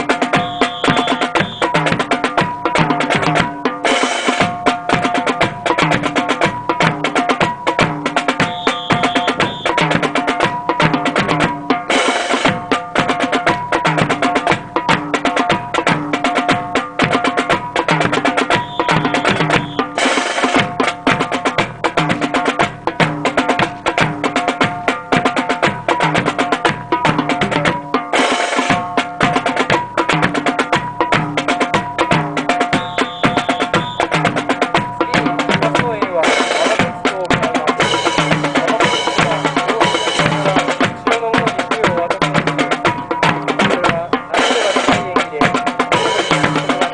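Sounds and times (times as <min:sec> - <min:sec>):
military march music: 0:00.0 - 0:46.9
snare and bass drum beat: 0:00.0 - 0:46.9.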